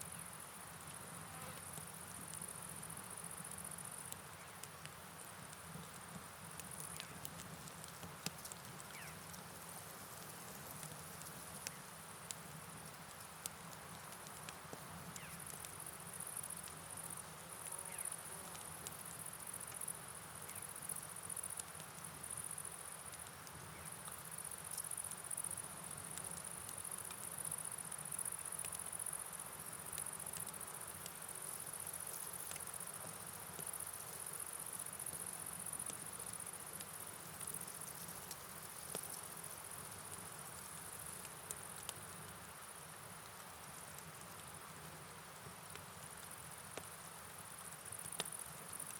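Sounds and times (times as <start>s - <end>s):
night insects chirring: 6.3s - 13.3s, 13.9s - 48.9s.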